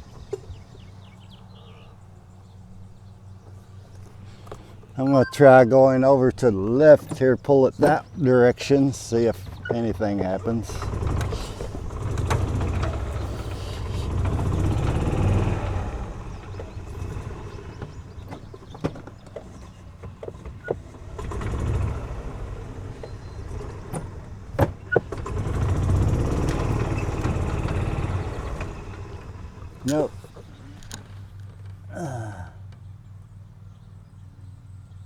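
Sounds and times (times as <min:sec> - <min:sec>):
golf cart engine surging: 0:00.0 - 0:35.0.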